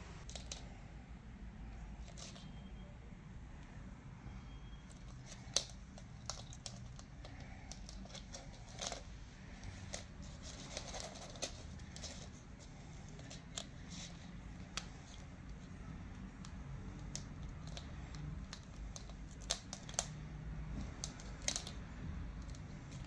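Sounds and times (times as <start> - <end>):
kitten claws clicking on floor: 0.2 - 0.8, 2.0 - 2.6, 4.9 - 20.2, 20.8 - 23.0.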